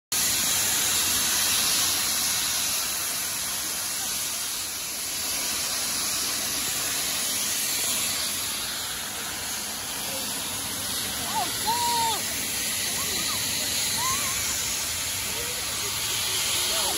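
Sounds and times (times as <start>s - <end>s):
steam locomotive venting steam: 0.1s - 16.9s.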